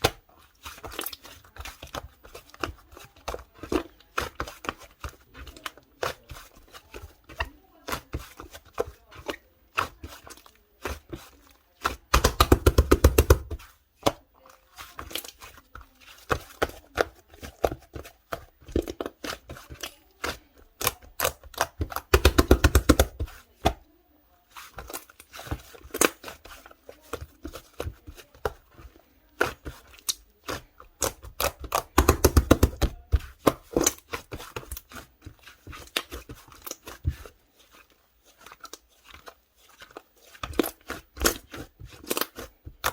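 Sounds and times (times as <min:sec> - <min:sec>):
slime squishing: 0:00.0 - 0:42.9.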